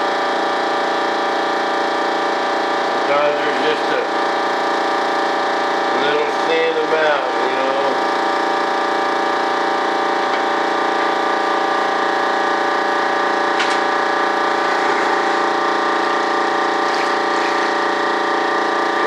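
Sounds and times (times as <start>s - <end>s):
machine whining hum: 0.0s - 19.0s.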